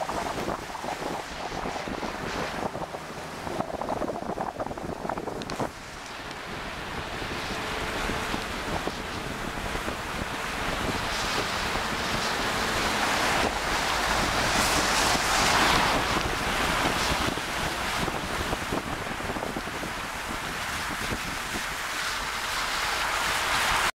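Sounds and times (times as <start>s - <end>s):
floodwater splashing and rushing: 0.0s - 23.9s
wind buffeting microphone: 0.0s - 23.9s.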